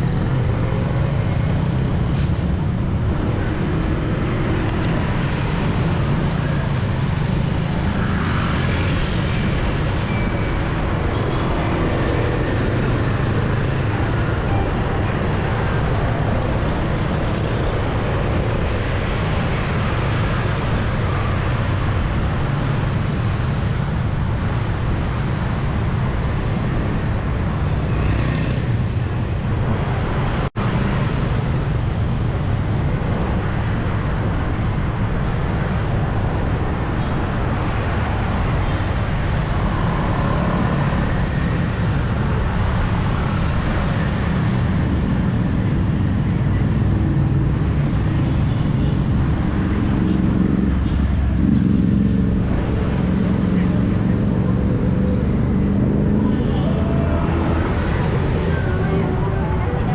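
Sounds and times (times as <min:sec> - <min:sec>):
motorbikes passing: 0:00.0 - 0:34.4, 0:37.4 - 0:59.9
cars passing: 0:00.0 - 0:59.9
low traffic rumble: 0:00.0 - 0:59.9.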